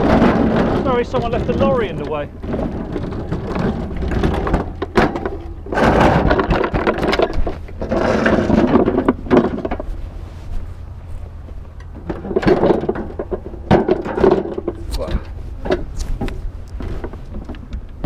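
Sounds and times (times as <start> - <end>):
knocking and clattering handling noises: 0.0 - 18.0
wind rumble on microphone: 0.0 - 18.0.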